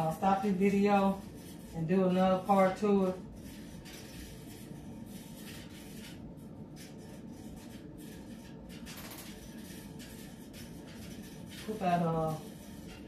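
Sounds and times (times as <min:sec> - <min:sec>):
faint rubbing and handling: 0:00.0 - 0:13.0
room hum: 0:00.0 - 0:13.0.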